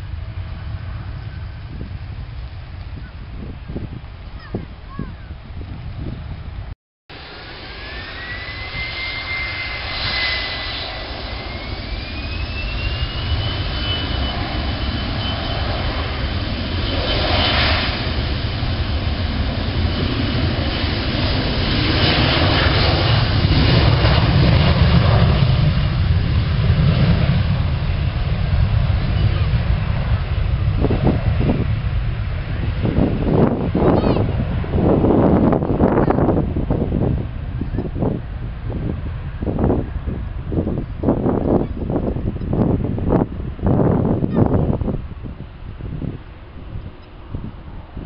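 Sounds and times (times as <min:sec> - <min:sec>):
jet engine low rumble: 0:00.0 - 0:48.0
jet engine whine: 0:00.0 - 0:48.0.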